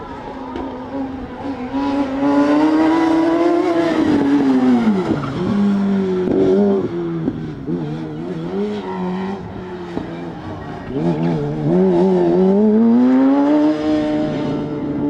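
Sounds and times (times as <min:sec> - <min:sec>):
high-revving car engine: 0:00.0 - 0:15.0.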